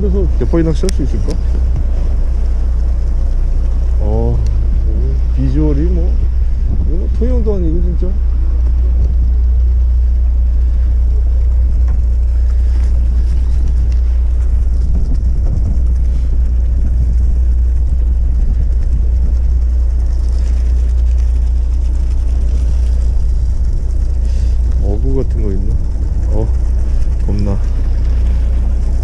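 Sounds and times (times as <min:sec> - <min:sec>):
boat engine droning: 0:00.0 - 0:29.0
water noise: 0:00.0 - 0:29.0
wind noise: 0:00.0 - 0:29.0.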